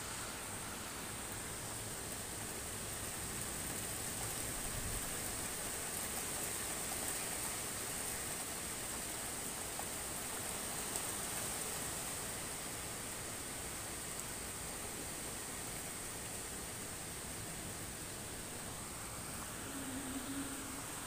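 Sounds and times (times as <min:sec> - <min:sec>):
rain on rooftops: 0:00.0 - 0:21.0.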